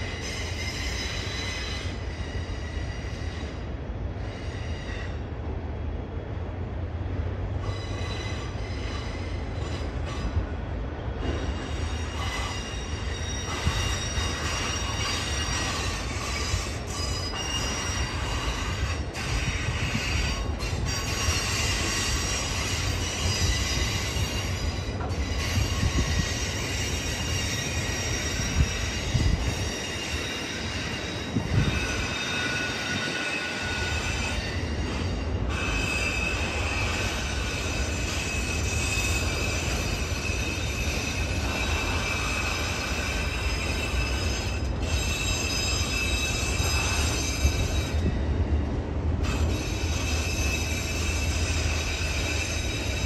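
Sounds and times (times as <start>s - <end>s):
train cars clanking: 0.0s - 5.3s, 7.0s - 53.0s
train wheels squealing: 0.0s - 5.3s, 7.5s - 53.0s
train rumbling: 0.0s - 53.0s.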